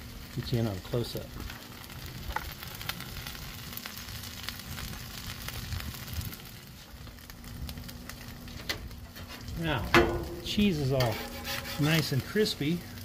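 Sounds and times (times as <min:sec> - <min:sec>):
taco sizzling on griddle: 0:00.0 - 0:13.0.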